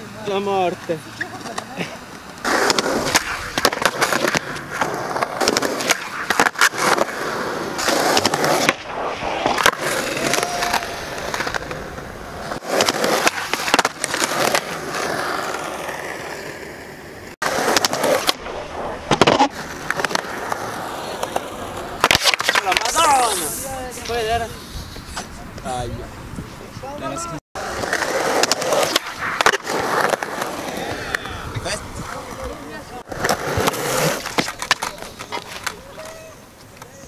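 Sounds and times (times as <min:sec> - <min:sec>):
skateboard wheels rolling on concrete: 0:00.0 - 0:37.0
skateboard tails popping: 0:01.2 - 0:25.7, 0:27.6 - 0:37.0.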